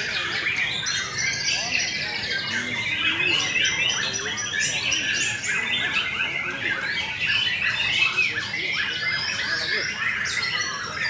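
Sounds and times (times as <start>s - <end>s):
birds singing whistles and trills: 0.0s - 11.0s.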